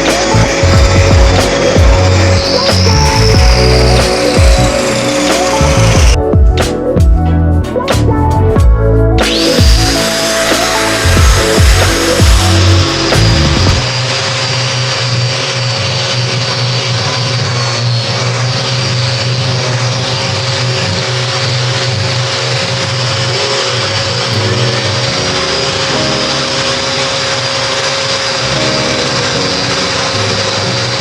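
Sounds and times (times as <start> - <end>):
motor hum with whine: 0.0 - 6.2, 9.2 - 31.0.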